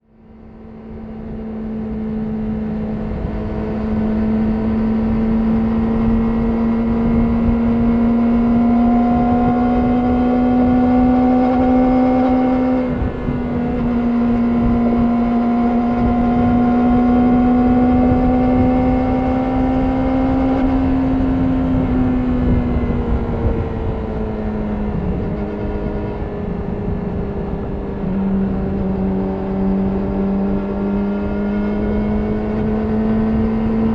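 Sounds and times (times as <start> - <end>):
motorcycle engine accelerating: 0.0 - 33.9
wind rush: 0.1 - 33.9.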